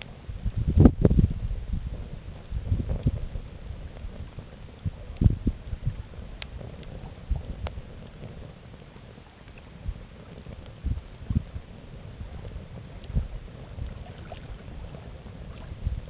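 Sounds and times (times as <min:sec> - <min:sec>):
campfire crackling: 0:00.0 - 0:16.0
low rumble: 0:00.0 - 0:16.0.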